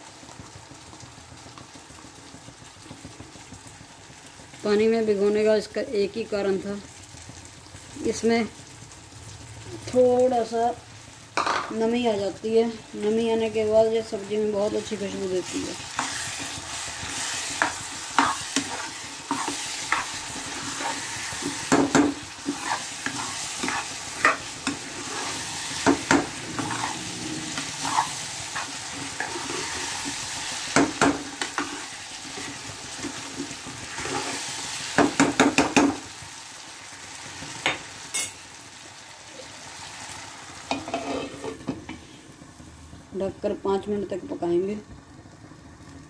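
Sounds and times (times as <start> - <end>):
curry sizzling in a pan: 0.0 - 46.0.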